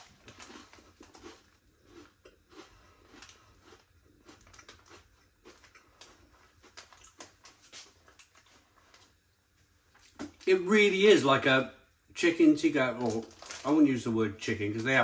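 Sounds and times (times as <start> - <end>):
faint chewing and crunching: 0.0 - 10.6, 11.9 - 15.0.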